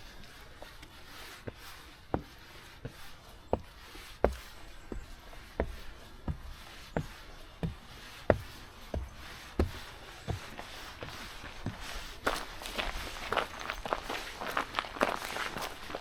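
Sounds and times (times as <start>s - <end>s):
footsteps walking: 1.5s - 16.0s.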